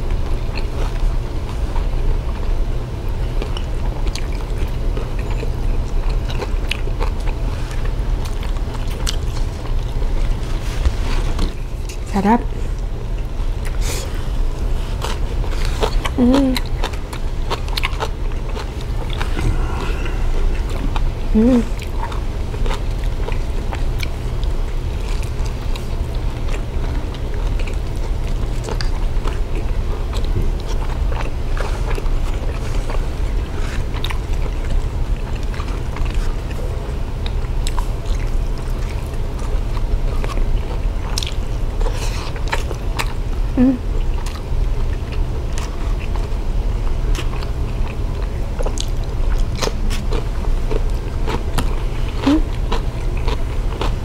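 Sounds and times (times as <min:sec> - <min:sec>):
biting chewing and crunching food: 0:00.0 - 0:54.0
steady low hum: 0:00.0 - 0:54.0.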